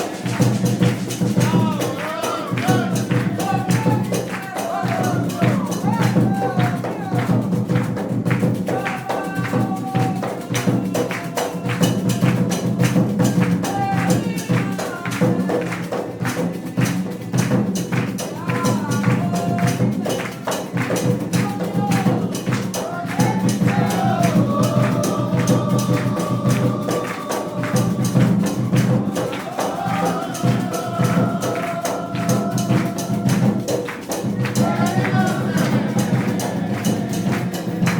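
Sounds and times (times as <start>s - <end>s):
fast rattling percussion: 0.0s - 37.9s
hand drums: 0.0s - 37.9s
voices singing a chant: 0.0s - 37.9s.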